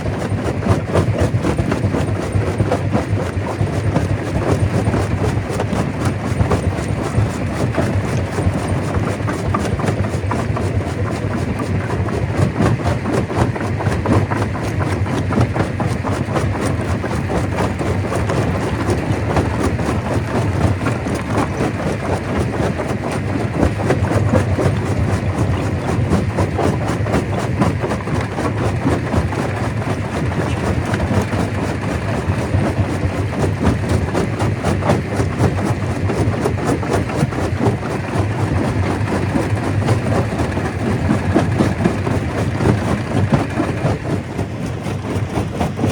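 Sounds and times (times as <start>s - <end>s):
stone crusher running: 0.0s - 45.9s.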